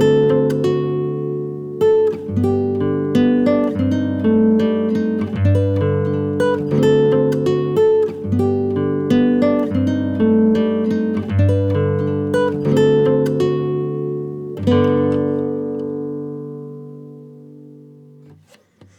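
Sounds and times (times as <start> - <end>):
acoustic guitar melody: 0.0 - 18.9.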